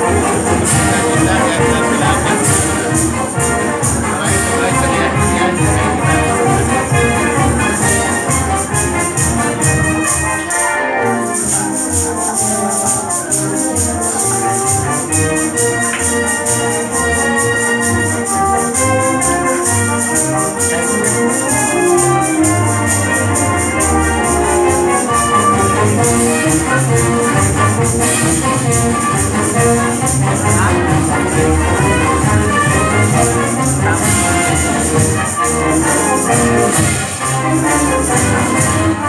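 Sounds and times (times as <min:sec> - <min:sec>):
music with steady beat: 0:00.0 - 0:39.0
tambourines jingling: 0:00.0 - 0:39.0.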